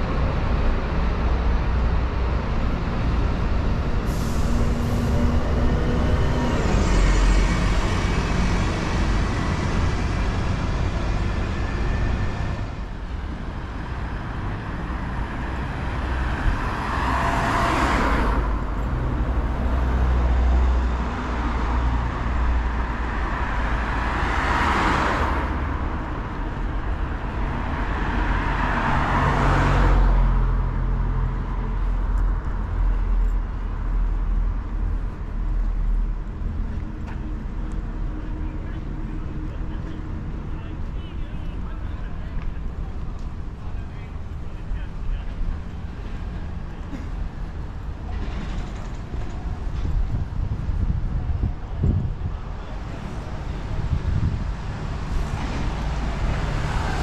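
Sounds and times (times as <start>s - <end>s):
vehicles passing close by: 0.0s - 57.0s.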